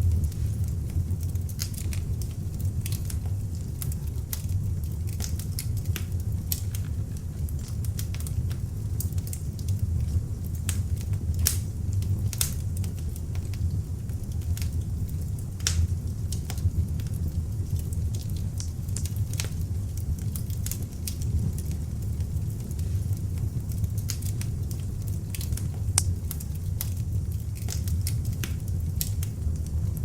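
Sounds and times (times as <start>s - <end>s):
burning wood crackling and popping: 0.0s - 30.0s
low rumble of flame: 0.0s - 30.0s.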